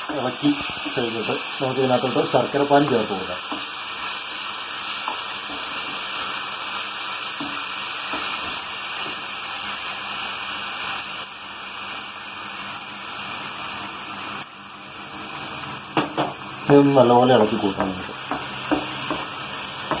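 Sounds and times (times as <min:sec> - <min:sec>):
pan sizzling: 0:00.0 - 0:20.0.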